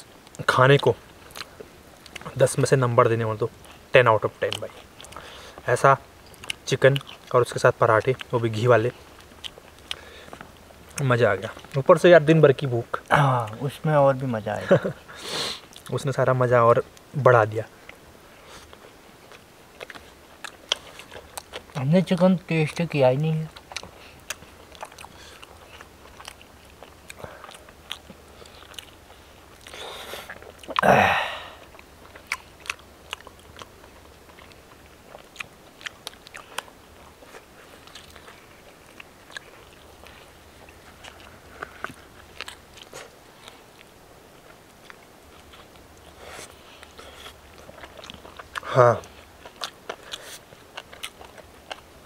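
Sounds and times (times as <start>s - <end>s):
biting and chewing: 0.0s - 52.0s.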